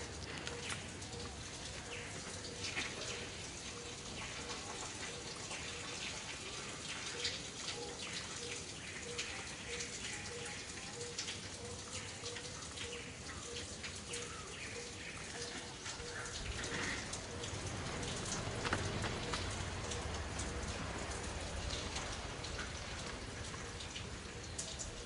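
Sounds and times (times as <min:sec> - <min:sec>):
light ticks and patters: 0:00.0 - 0:25.0.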